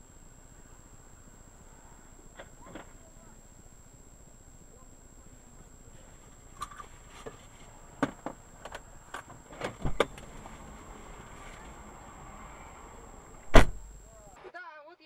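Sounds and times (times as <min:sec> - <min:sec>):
faint high whine: 0:00.0 - 0:14.5.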